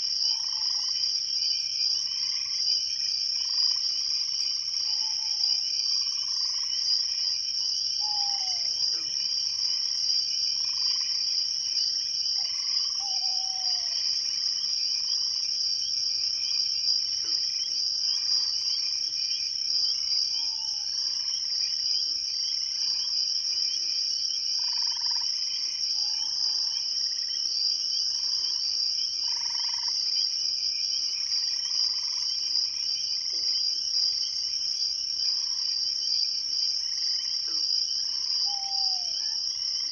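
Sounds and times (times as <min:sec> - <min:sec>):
cricket trill: 0:00.0 - 0:39.9
higher insect chirp: 0:00.0 - 0:39.9.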